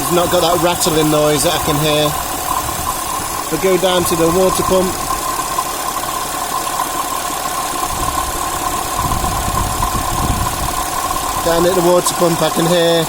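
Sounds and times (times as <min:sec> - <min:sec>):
car engine idling with whine: 0:00.0 - 0:13.0
water pump rattling: 0:00.0 - 0:13.0.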